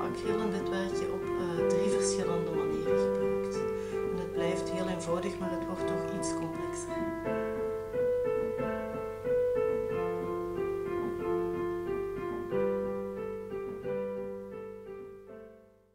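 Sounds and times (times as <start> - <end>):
slow piano chords: 0.0 - 15.9.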